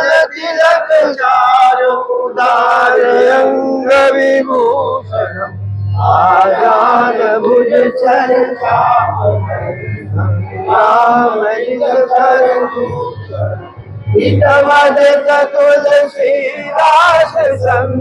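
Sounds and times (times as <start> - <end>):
men singing a hymn together: 0.0 - 18.0.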